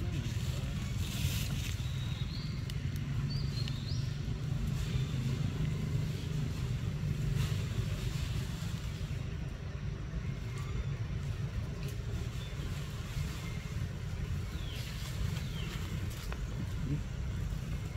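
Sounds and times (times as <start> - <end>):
low outdoor rumble: 0.0 - 17.9.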